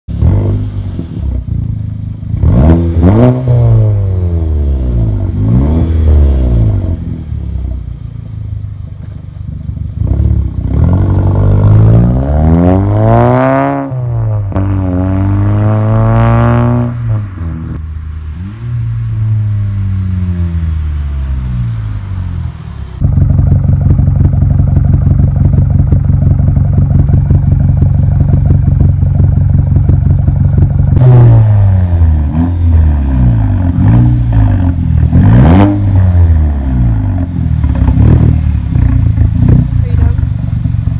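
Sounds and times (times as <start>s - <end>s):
car engine idling: 0.1s - 3.2s, 3.8s - 12.0s, 16.8s - 40.9s
car engine revving: 0.1s - 40.9s
car exhaust accelerating past: 0.1s - 40.9s.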